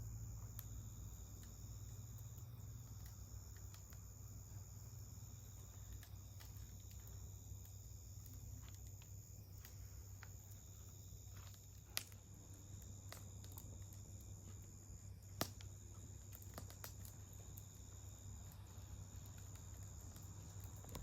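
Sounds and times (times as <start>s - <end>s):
insect trill: 0.0s - 21.0s
wood fire crackling and popping: 0.0s - 21.0s.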